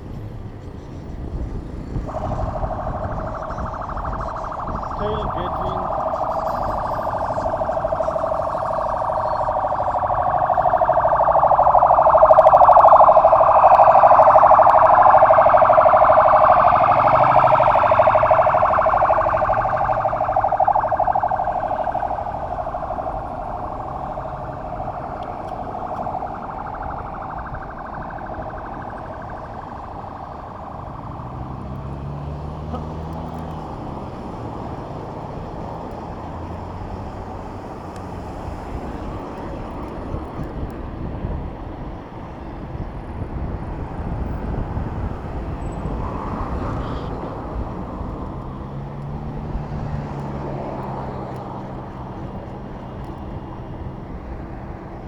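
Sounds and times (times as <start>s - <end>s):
emergency vehicle siren wailing: 0.0s - 55.0s
low traffic noise: 0.0s - 55.0s.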